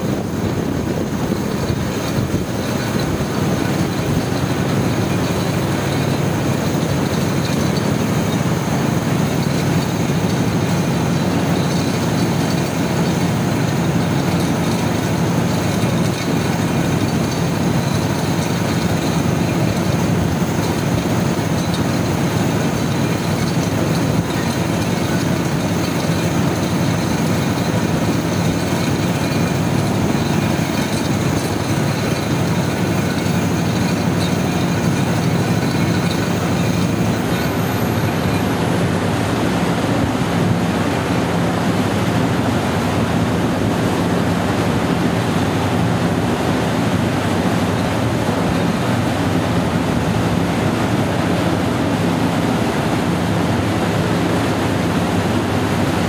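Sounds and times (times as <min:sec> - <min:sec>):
diesel generator running: 0:00.0 - 0:56.0.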